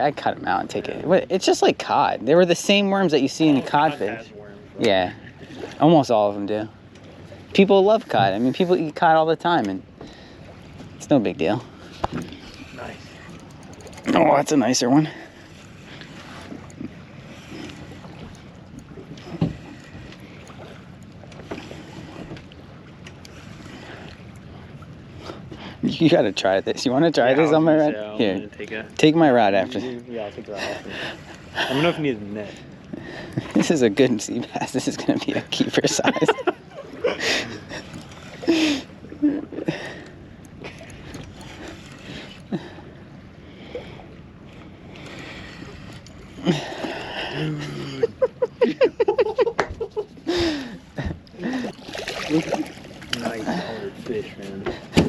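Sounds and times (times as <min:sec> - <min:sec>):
water around a boat: 0:00.0 - 0:55.0
wind: 0:00.0 - 0:55.0.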